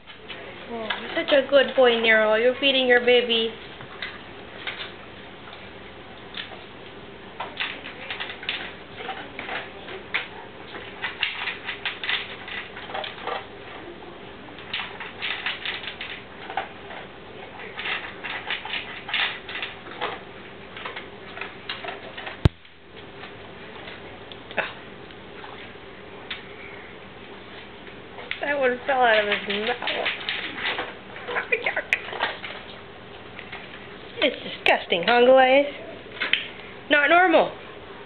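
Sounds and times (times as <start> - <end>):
animals crunching food: 0.0 - 35.2.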